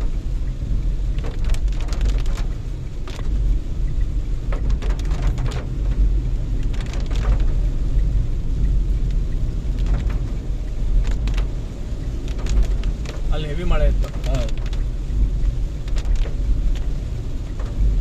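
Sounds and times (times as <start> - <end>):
rain ticking on car body: 0.0 - 18.0
road and engine rumble: 0.0 - 18.0.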